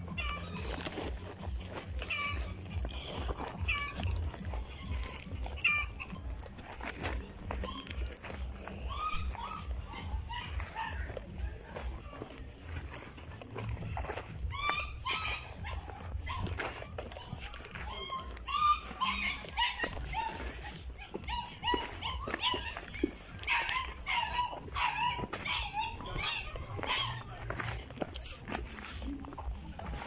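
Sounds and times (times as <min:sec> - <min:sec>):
dogs barking and yelping: 0:00.0 - 0:30.0.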